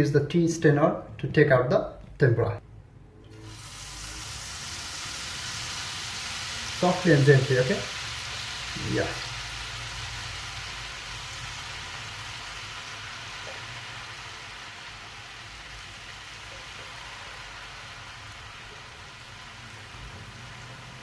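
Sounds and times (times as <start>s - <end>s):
batter sizzling in hot oil: 3.3s - 21.0s.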